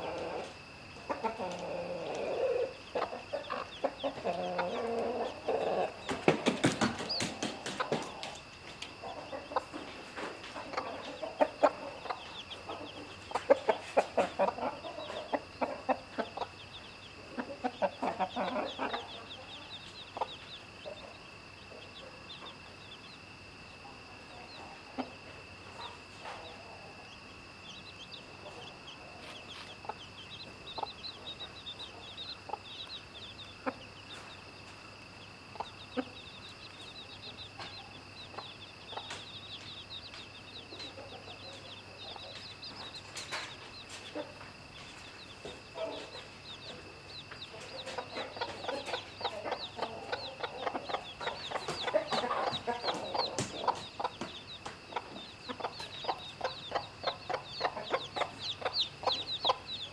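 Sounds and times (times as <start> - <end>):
chickens clucking: 0.0 - 59.9
chicks peeping: 0.0 - 59.9.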